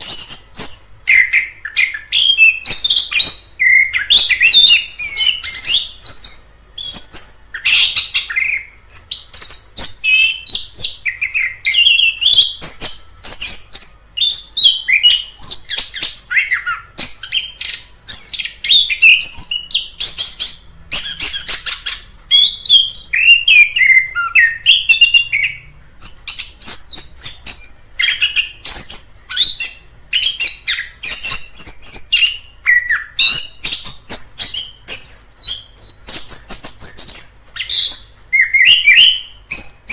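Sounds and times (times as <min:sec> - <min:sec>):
thrush singing whistled phrases: 0:00.0 - 0:39.9.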